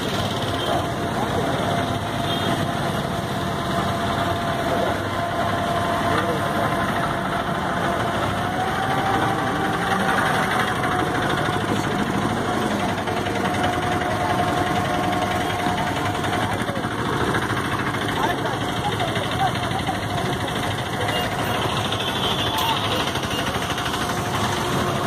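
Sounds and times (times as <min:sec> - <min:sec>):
ferry engine droning: 0:00.0 - 0:25.0.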